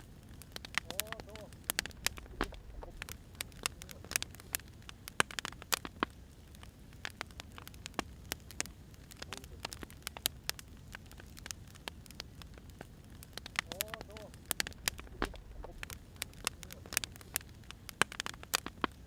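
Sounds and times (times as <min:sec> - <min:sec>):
firewood crackling: 0:00.0 - 0:19.0.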